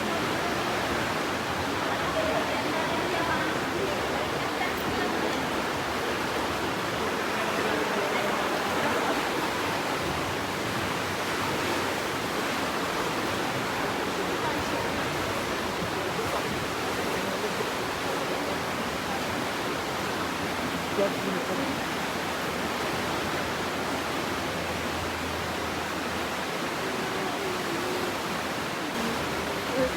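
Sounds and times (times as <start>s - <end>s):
river water rushing: 0.0s - 29.9s.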